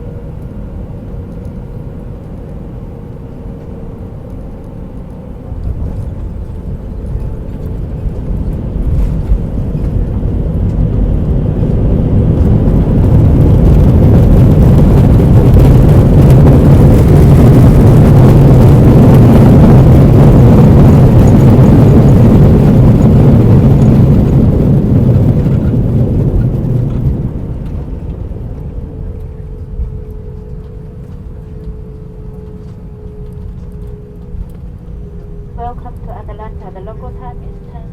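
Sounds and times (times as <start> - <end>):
jet engines roaring: 0.0 - 37.9.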